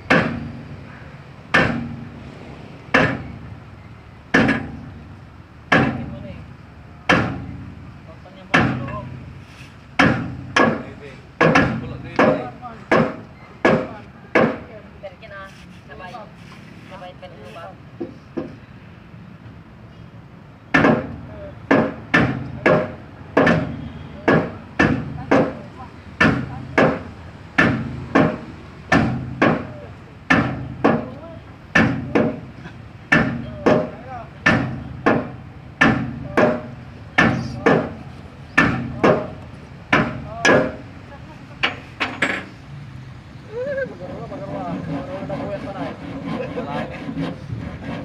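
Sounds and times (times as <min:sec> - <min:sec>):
hammer striking truck siding: 0:00.0 - 0:02.3, 0:02.9 - 0:14.8, 0:18.0 - 0:18.7, 0:20.7 - 0:42.6, 0:44.1 - 0:48.0.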